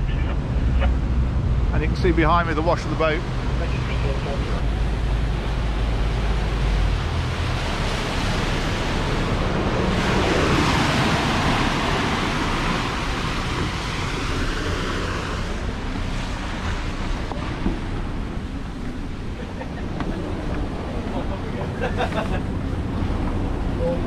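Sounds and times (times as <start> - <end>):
boat engine drone: 0.0 - 24.0
wake water rushing: 0.0 - 24.0
wind buffeting microphone: 0.0 - 24.0.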